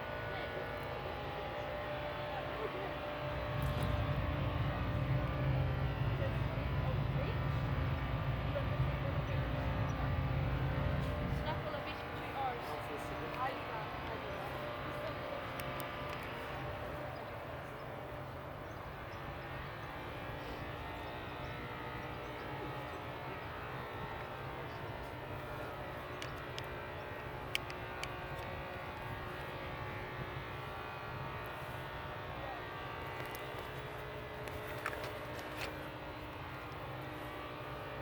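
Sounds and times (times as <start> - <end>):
distant engine drone: 0.0 - 38.0.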